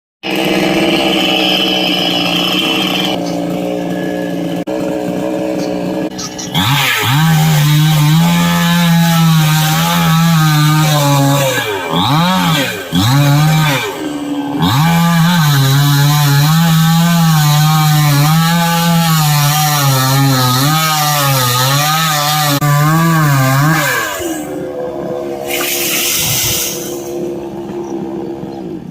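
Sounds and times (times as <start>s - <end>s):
chainsaw engine running: 0.2s - 28.9s.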